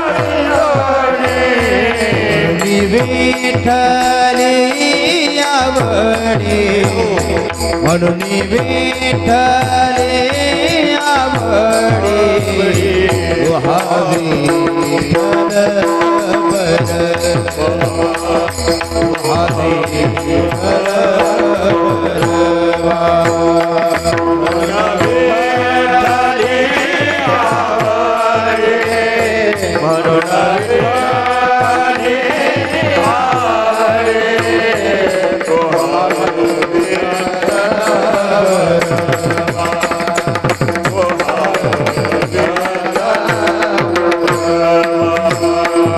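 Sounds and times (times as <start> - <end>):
hand drum beat: 0.0 - 45.9
harmonium drone: 0.0 - 45.9.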